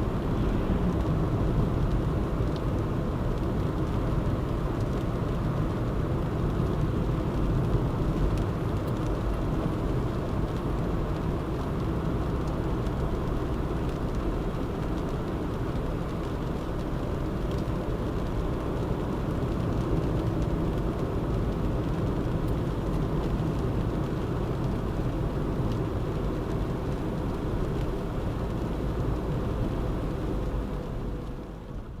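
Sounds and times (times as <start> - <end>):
moving car engine and tyres: 0.0 - 32.0.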